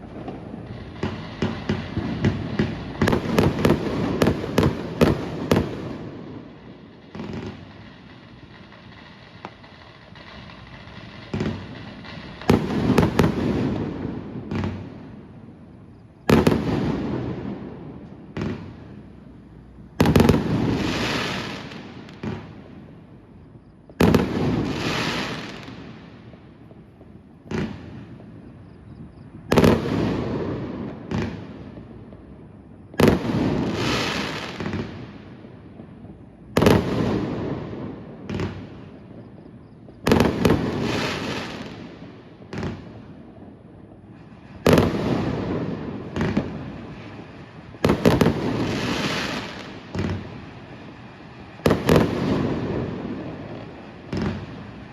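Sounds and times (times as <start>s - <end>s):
small firework pops: 0.0s - 15.2s, 15.9s - 22.9s, 23.6s - 43.6s, 44.2s - 50.4s, 51.6s - 54.9s
fireworks bangs: 0.0s - 54.9s.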